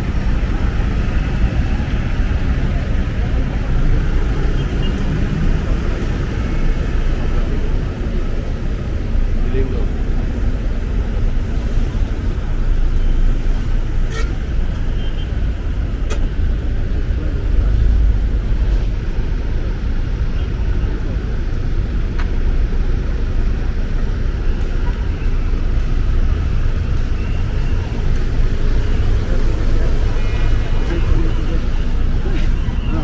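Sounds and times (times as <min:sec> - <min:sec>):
low rumble of road traffic: 0:00.0 - 0:33.0.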